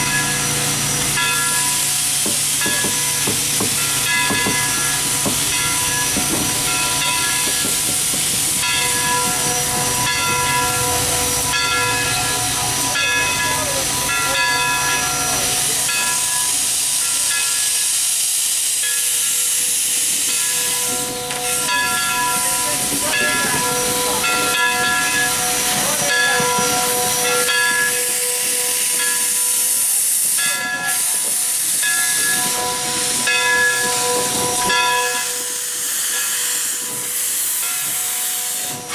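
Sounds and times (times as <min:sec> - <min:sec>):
steam hissing: 0:00.0 - 0:38.9.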